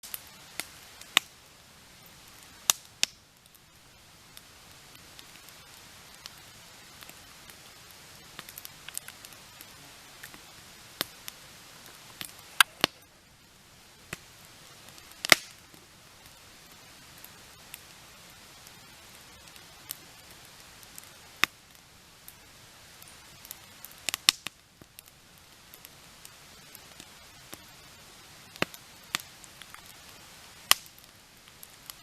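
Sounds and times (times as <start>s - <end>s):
sharp pops from fire: 0.0s - 32.0s
soft fire hiss: 0.0s - 32.0s
wood crackling in campfire: 0.0s - 32.0s.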